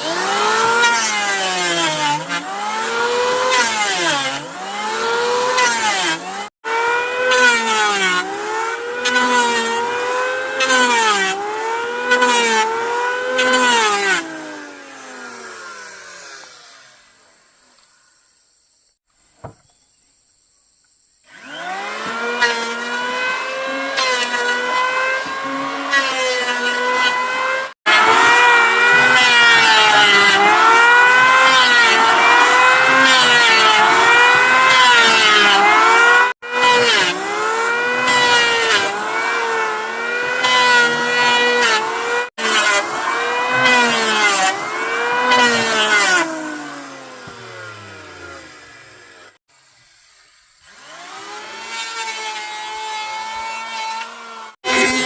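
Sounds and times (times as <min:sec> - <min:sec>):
power tool motor cutting wood: 0:00.0 - 0:18.0, 0:21.3 - 0:55.0.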